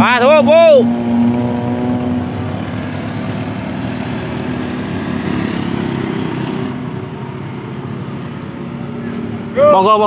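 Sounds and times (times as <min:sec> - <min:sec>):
scooter engine struggling uphill: 0:00.0 - 0:10.0.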